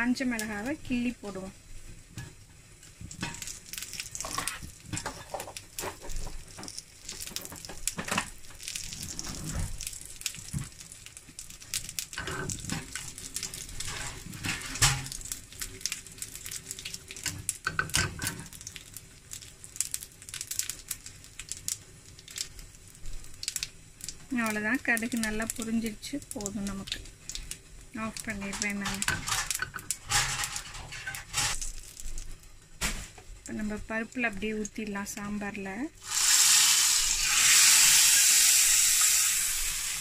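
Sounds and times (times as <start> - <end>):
mustard seeds popping in hot oil: 0.0 - 40.0
oil sizzling in a pan: 0.0 - 40.0.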